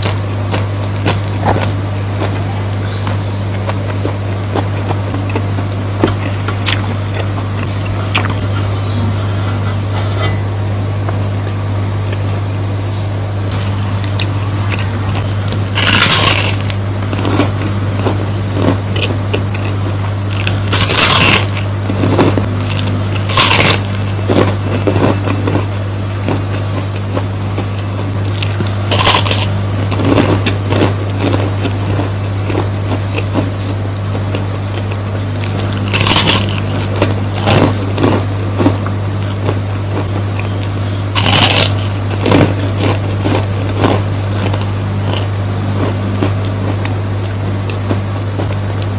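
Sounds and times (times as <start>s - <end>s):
crunchy bites: 0.0s - 9.4s, 13.4s - 48.9s
close chewing sounds: 0.0s - 9.6s, 13.5s - 48.9s
steady low hum: 0.0s - 48.9s.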